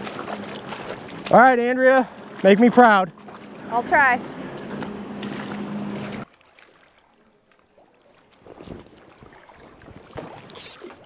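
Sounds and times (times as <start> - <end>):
outboard motor humming: 0.0 - 11.0
splashes of wading in water: 0.0 - 11.0.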